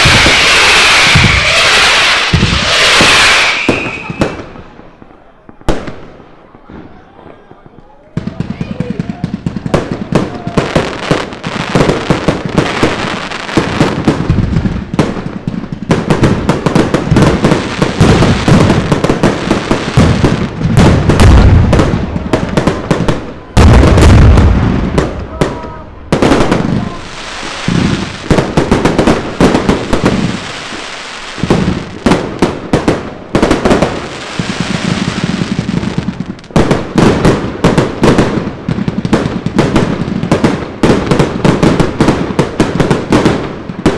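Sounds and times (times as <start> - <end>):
fireworks crackling and popping: 0.0 - 43.9
heavy firework booms: 0.0 - 43.9.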